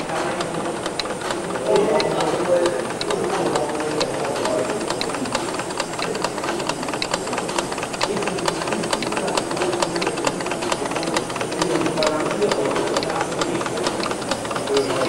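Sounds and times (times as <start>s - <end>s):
model steam engines hissing: 0.0s - 15.0s
quick irregular clicks: 0.0s - 15.0s.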